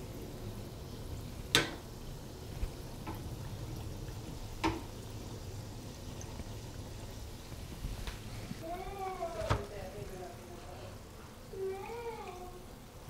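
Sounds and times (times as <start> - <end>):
doughnuts sizzling in hot oil: 0.0 - 9.2, 9.8 - 13.0.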